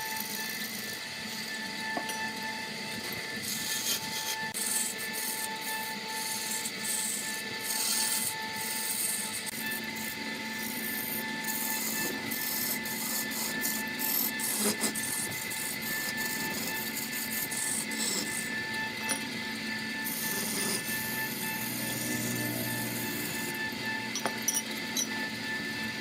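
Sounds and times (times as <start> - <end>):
wood lathe running: 0.0 - 26.0
turning tool scraping hiss: 3.4 - 25.2.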